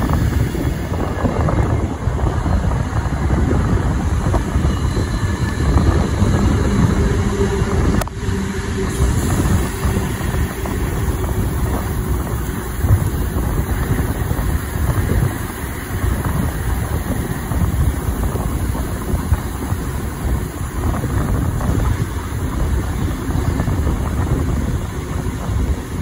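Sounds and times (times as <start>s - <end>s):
train carriage rumbling on track: 0.0s - 26.0s
wind buffeting microphone: 0.0s - 26.0s.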